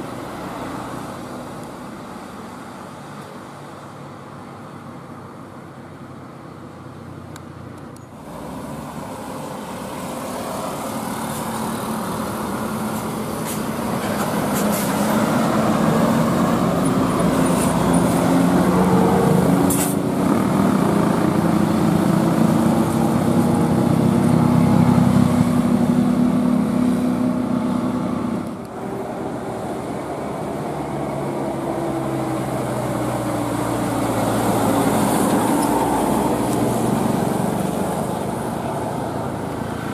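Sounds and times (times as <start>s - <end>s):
bus engine accelerating: 0.0s - 39.9s.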